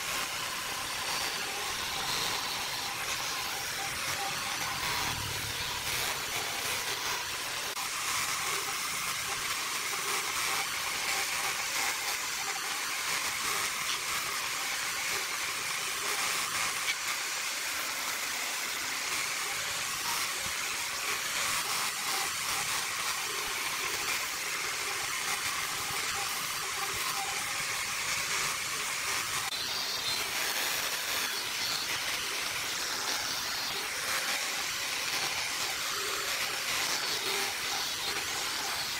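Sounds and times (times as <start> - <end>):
angle grinder sanding wood: 0.0 - 38.9.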